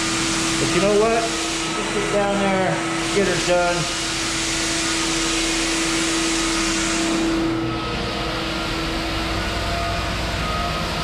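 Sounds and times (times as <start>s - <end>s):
floor sanding machine running: 0.0s - 11.0s.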